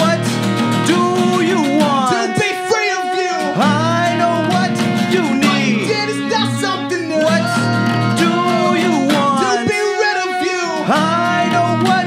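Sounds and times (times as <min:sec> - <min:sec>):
acoustic bass guitar: 0:00.0 - 0:12.0
strummed acoustic guitar: 0:00.0 - 0:12.0
bowed violin melody: 0:00.7 - 0:12.0.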